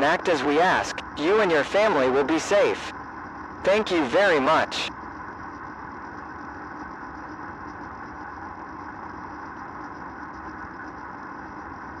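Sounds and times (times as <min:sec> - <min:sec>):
droning hum with hiss: 0:00.0 - 0:12.0.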